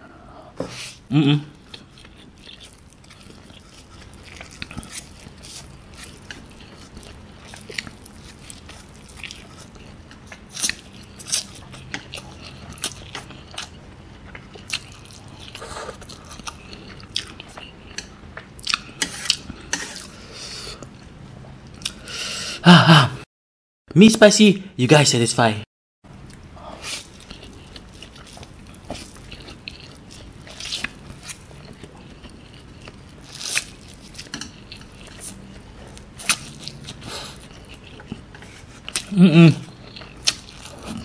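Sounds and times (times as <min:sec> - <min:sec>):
person slurping and chewing noodles: 0:00.8 - 0:20.8, 0:26.6 - 0:41.0.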